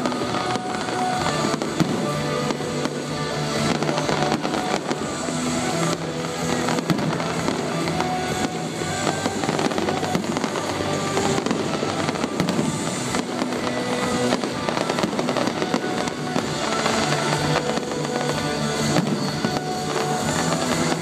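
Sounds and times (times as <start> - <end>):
fireworks crackling and popping: 0.0 - 21.0
music playing: 0.0 - 21.0.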